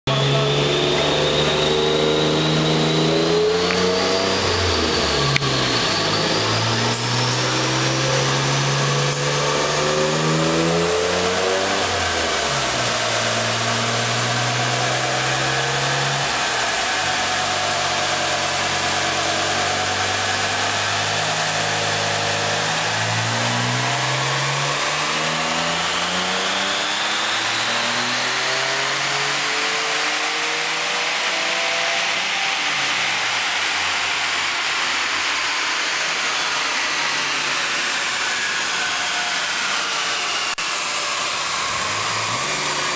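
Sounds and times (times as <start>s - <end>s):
car engine revving on dynamometer: 0.1s - 42.9s.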